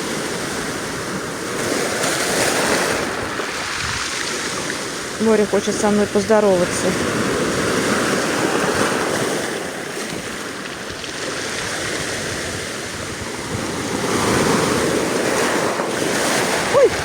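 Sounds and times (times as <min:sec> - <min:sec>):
small waves breaking on shore: 0:00.0 - 0:17.0.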